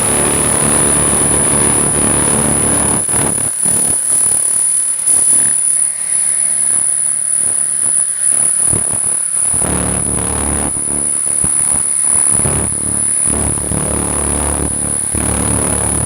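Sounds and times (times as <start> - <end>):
laser cleaner high-pitched whine: 0.0 - 16.0.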